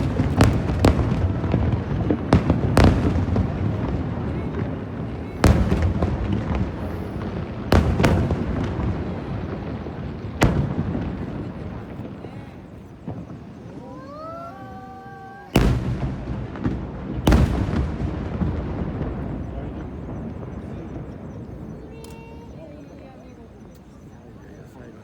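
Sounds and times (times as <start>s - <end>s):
rising firework whistle: 0.0s - 23.2s
fireworks bangs with echo: 0.0s - 25.0s.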